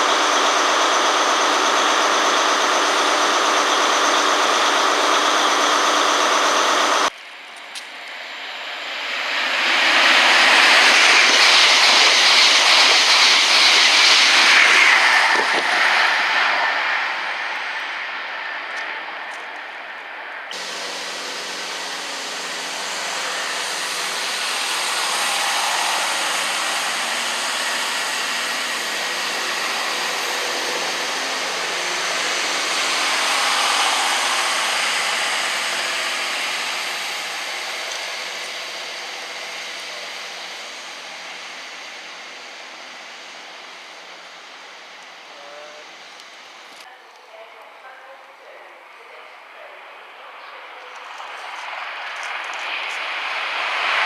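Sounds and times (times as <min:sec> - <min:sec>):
train passing at speed: 0:07.7 - 0:46.2, 0:47.3 - 0:54.0.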